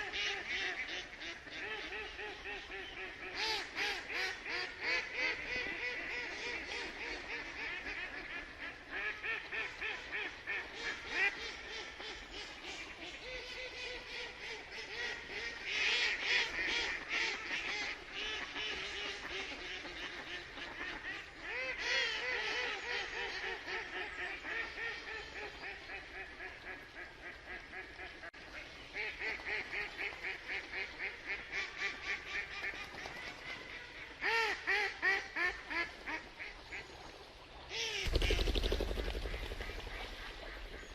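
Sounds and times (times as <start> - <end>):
ducks quacking: 0.0 - 37.0, 37.7 - 40.9.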